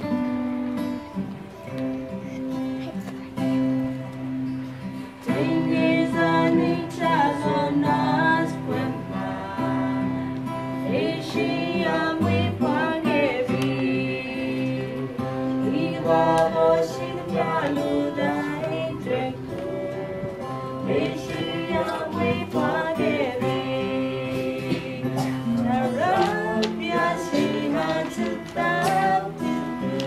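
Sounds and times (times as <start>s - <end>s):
strummed acoustic guitar: 0.0s - 30.0s
man and woman singing: 5.0s - 30.0s.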